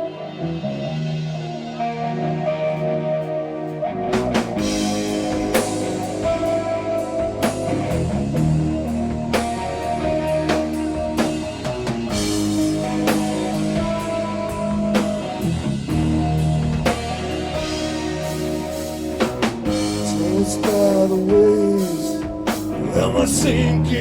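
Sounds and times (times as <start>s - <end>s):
heavy metal band playing: 0.0s - 24.0s
sustained electric guitar: 0.0s - 24.0s.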